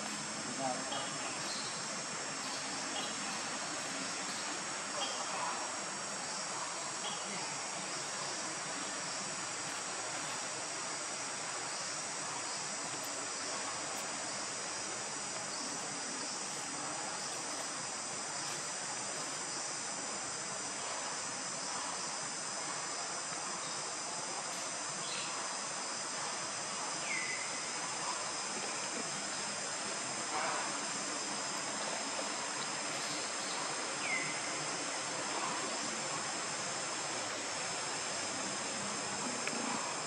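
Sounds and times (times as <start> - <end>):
constant hiss: 0.0 - 40.0
insects droning: 0.0 - 40.0.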